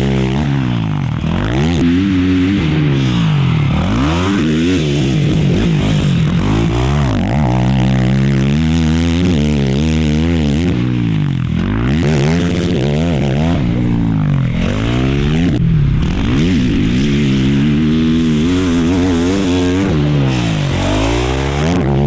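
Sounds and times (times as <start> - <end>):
quad engine revving: 0.0 - 22.0.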